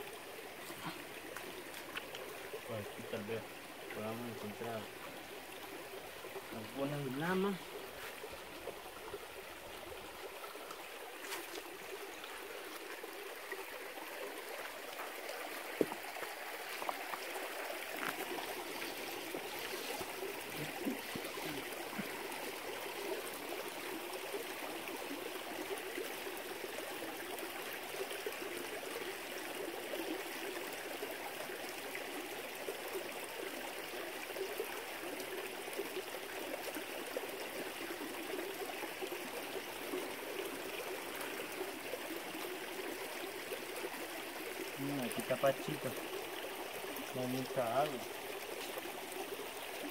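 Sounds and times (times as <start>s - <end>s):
stream running over stones: 0.0s - 49.9s.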